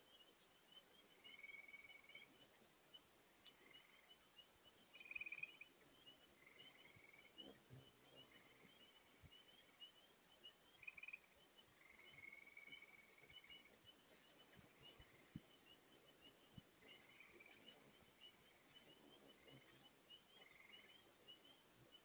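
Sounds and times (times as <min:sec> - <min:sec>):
hummingbirds chirping: 0:00.0 - 0:22.0.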